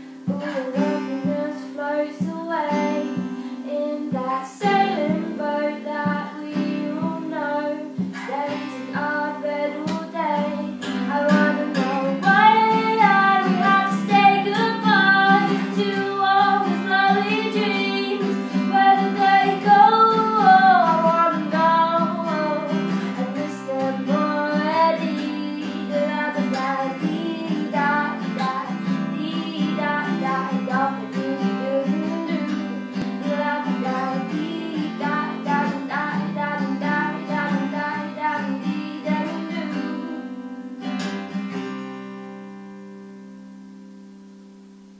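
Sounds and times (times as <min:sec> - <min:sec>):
woman singing: 0:00.0 - 0:40.7
strummed acoustic guitar: 0:00.0 - 0:44.7.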